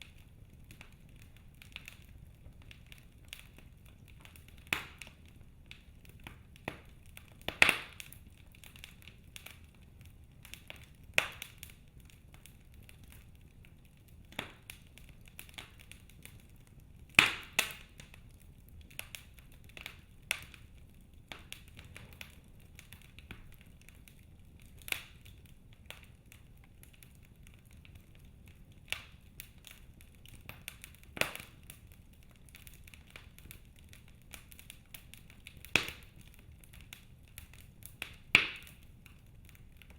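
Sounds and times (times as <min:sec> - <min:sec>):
low steady hiss: 0:00.0 - 0:39.9
wood fire popping and snapping: 0:00.0 - 0:39.9.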